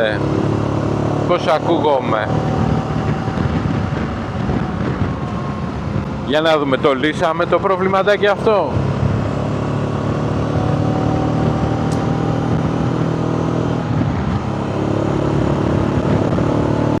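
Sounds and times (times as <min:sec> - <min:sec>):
motorcycle engine cruising: 0:00.0 - 0:17.0
wind rush: 0:00.0 - 0:17.0.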